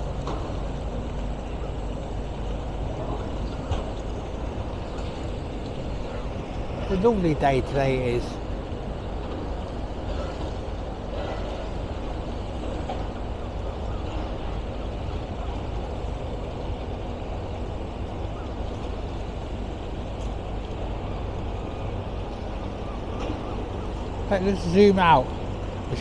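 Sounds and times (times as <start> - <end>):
excavators and loader working: 0.0 - 26.0.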